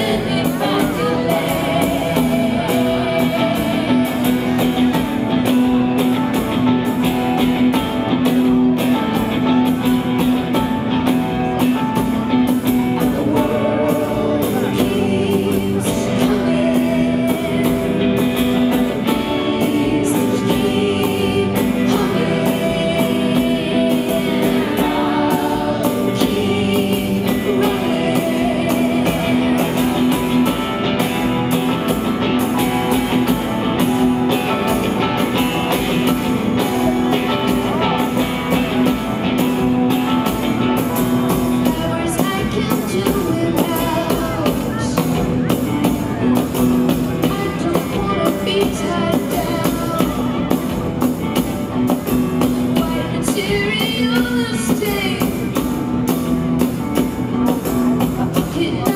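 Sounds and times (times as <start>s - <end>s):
woman singing: 0.0s - 6.4s, 8.2s - 58.9s
sustained keyboard chords: 0.0s - 58.8s
guitar: 0.0s - 58.9s.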